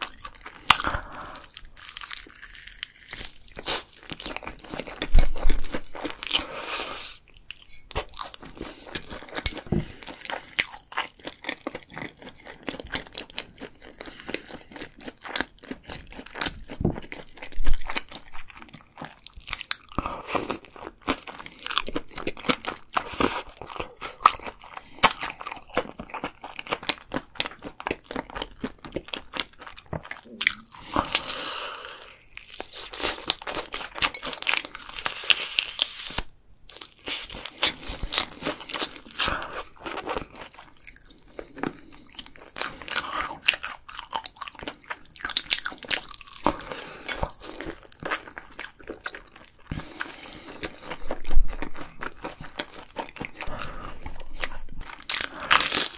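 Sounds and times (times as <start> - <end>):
chewing crunchy fried chicken: 0.0 - 55.9.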